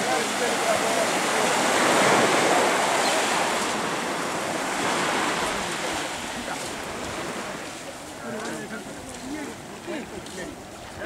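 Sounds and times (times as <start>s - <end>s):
waves breaking on sandy beach: 0.0s - 11.0s.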